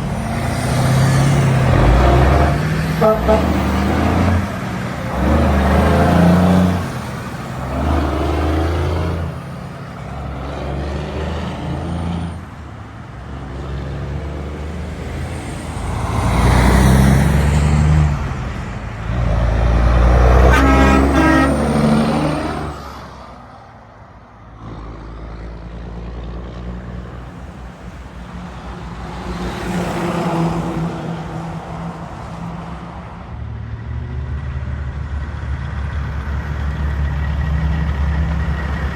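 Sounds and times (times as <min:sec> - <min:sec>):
heavy trucks passing: 0:00.0 - 0:38.9.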